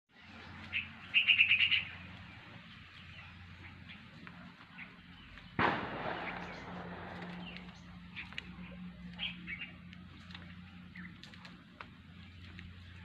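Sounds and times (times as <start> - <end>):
birds chirping: 0.1 - 13.0
low steady hum: 0.1 - 13.0
noisy rush: 0.1 - 13.0.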